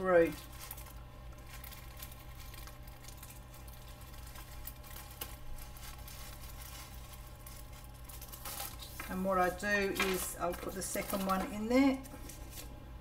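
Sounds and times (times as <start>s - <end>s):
paper strip rustling through machine: 0.0s - 12.8s
low steady hum: 0.0s - 13.0s.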